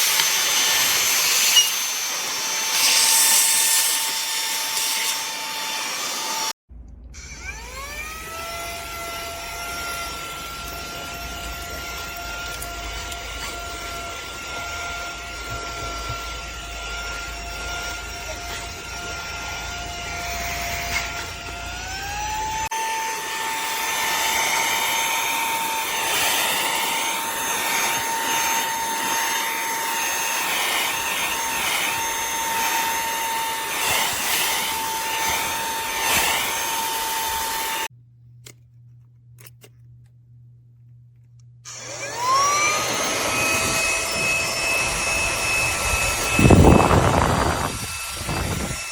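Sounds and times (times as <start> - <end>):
handheld vacuum motor whine: 0.0 - 6.6, 7.2 - 37.9, 41.7 - 48.9.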